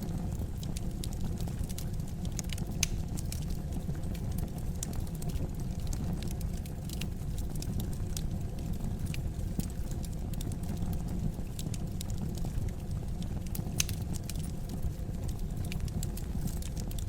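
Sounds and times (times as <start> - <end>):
fire crackling and popping: 0.0 - 17.0
fire low rumble: 0.0 - 17.0.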